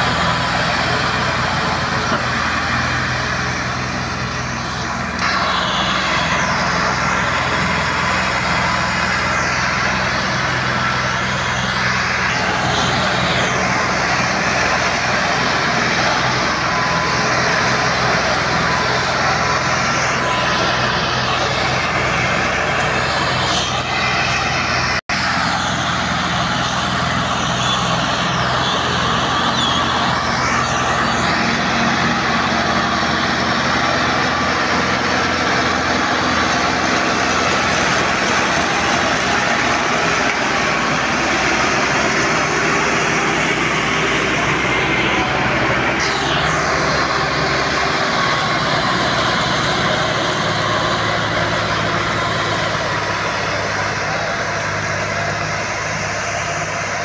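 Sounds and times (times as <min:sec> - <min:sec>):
diesel tractor engines under load: 0:00.0 - 0:57.0.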